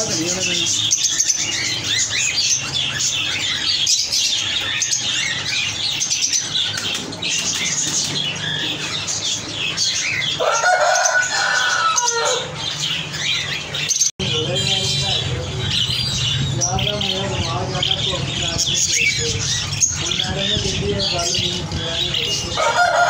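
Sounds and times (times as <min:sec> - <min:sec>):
lovebirds chirping: 0:00.0 - 0:23.0.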